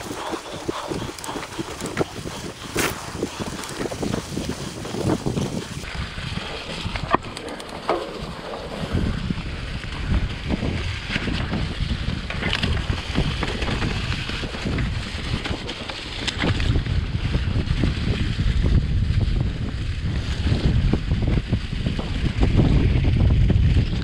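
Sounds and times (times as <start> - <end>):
tyres through wet mud: 0.0 - 23.8
wind on microphone: 0.0 - 24.0.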